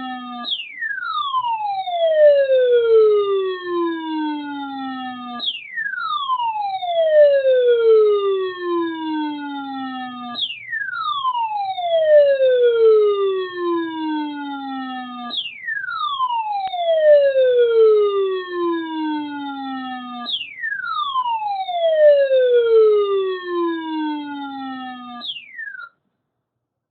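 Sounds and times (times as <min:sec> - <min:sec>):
electronic siren-like tone: 0:00.0 - 0:26.0.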